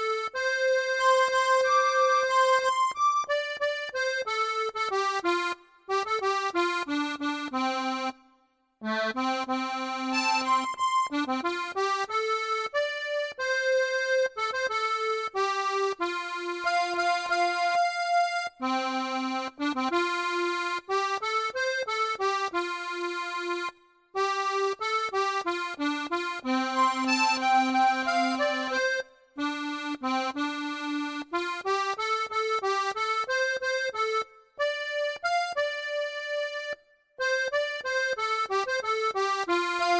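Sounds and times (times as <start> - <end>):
accordion playing melody: 0.0 - 39.9.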